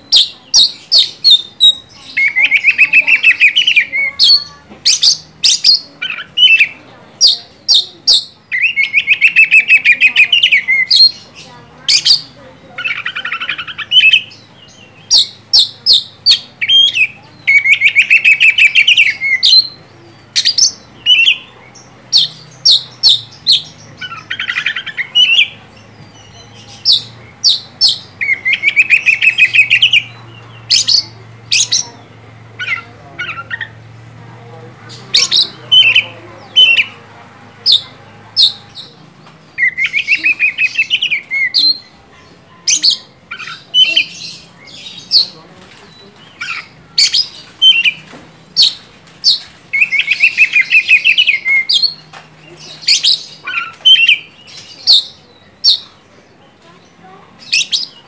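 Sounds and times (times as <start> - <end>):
songbird singing with trills: 0.0 - 34.0, 34.8 - 58.0.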